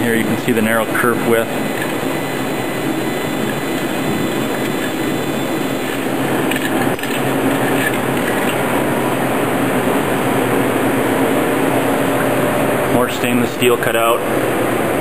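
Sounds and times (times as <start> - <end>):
laser-cutting machinery running: 0.0 - 15.0.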